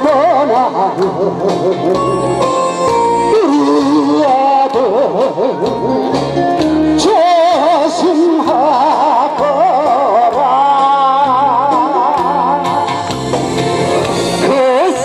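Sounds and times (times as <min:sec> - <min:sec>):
man singing with vibrato: 0:00.0 - 0:06.3, 0:06.9 - 0:13.6, 0:14.4 - 0:15.0
band accompaniment: 0:00.0 - 0:15.0.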